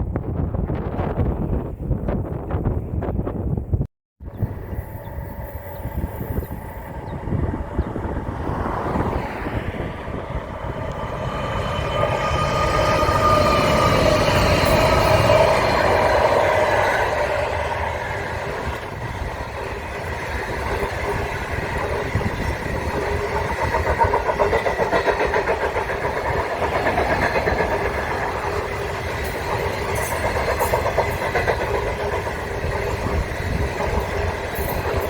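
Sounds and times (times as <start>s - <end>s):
train running: 4.2s - 35.0s.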